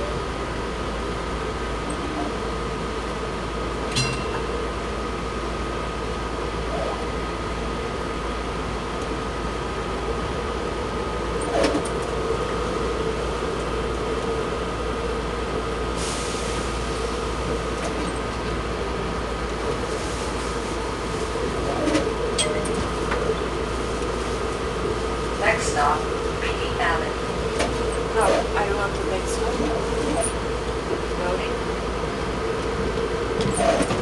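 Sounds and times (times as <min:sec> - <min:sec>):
streetcar rolling on track: 0:00.0 - 0:34.0.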